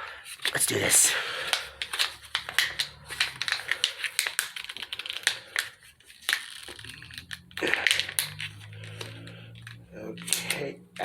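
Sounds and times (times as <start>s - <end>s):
packaging clicking and crinkling: 0.0s - 11.0s
packaging rustle: 0.1s - 10.6s
packaging snap: 1.3s - 10.6s.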